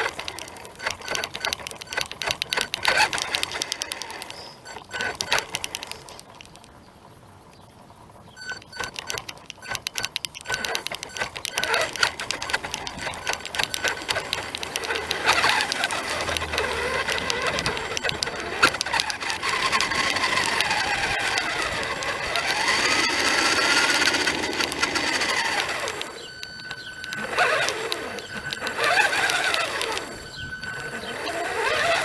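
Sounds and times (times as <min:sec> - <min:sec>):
rc car motor whining: 0:00.0 - 0:06.5, 0:08.4 - 0:32.0
small clicks: 0:00.0 - 0:06.8, 0:08.4 - 0:32.0.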